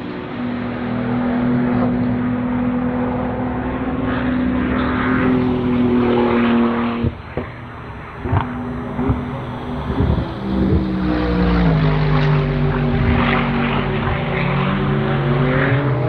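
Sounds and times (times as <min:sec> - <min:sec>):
race car engine running: 0:00.3 - 0:16.0.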